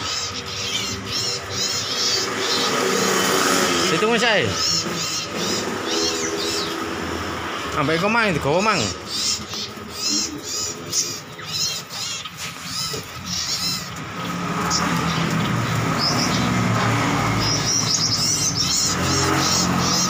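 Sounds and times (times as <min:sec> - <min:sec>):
small birds chirping: 0:00.0 - 0:20.0
steady background noise: 0:00.0 - 0:20.0.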